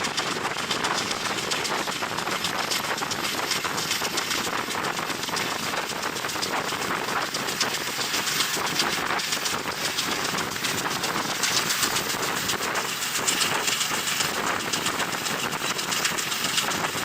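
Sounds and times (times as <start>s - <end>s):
train carriage rattling on rails: 0.0s - 17.0s
wind rushing over microphone: 0.0s - 17.0s.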